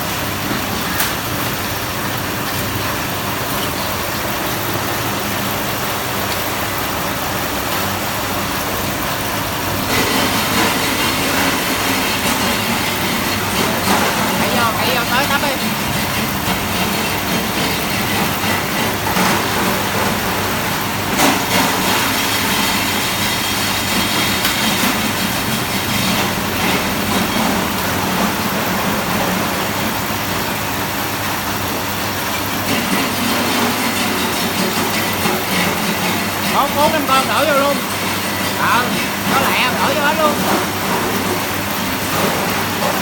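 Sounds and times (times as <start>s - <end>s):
cutting machine clattering: 0.1s - 43.0s.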